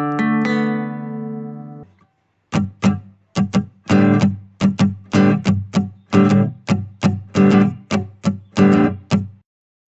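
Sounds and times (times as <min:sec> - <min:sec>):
guitar choppy strums: 0:00.0 - 0:09.4.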